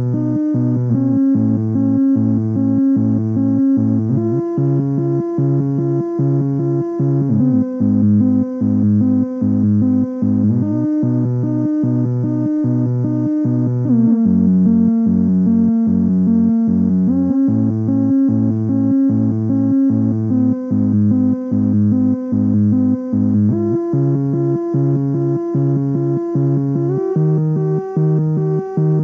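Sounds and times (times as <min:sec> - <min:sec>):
synthesizer bass sequence: 0:00.0 - 0:29.0.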